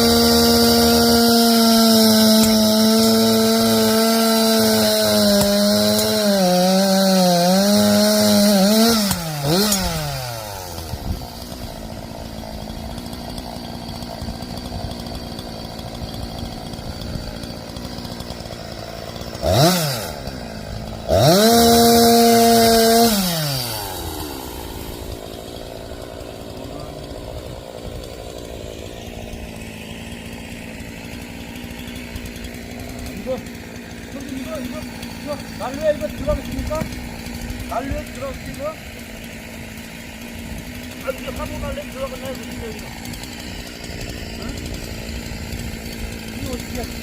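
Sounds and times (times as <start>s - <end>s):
chainsaw cutting wood: 0.0s - 47.0s
chainsaw idling and revving: 0.0s - 47.0s.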